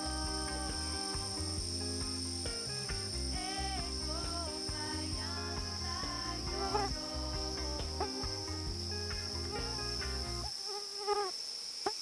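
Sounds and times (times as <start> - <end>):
low bass line: 0.0 - 10.5
sustained background music: 0.0 - 10.5
insect chorus drone: 0.0 - 12.0.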